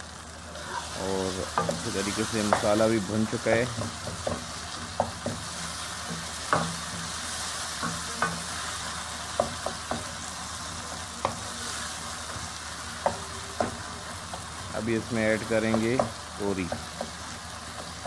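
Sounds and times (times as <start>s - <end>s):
masala sizzling in a wok: 0.0s - 18.0s
spatula scraping and knocking pan: 1.4s - 18.0s.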